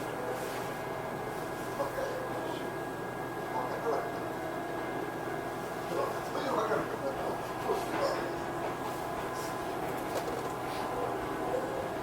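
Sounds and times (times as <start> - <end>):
electric train car hum: 0.0 - 12.0.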